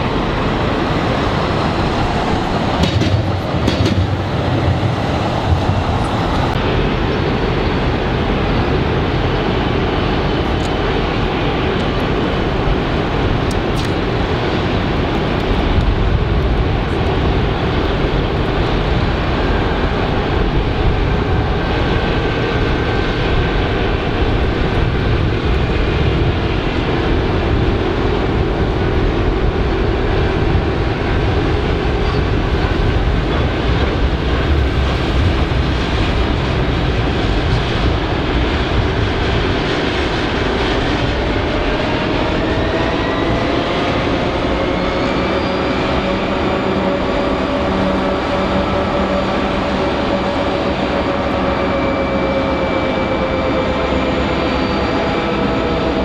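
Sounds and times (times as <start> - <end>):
freight train rumbling: 0.0 - 56.0
rising whine: 0.0 - 56.0.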